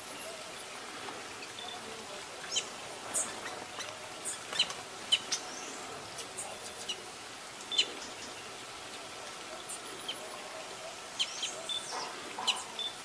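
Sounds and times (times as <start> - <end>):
faint outdoor hiss: 0.0 - 13.0
songbirds chirping: 0.0 - 13.0.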